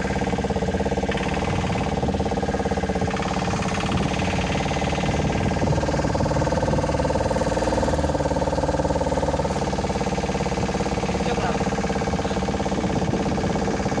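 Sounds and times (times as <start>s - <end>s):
car engine running: 0.0s - 14.0s
road rumble: 0.0s - 14.0s.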